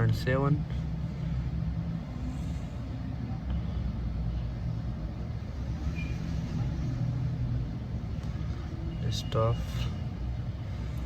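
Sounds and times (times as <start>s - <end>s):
faint hum: 0.0s - 11.0s
low rumbling background noise: 0.0s - 11.0s.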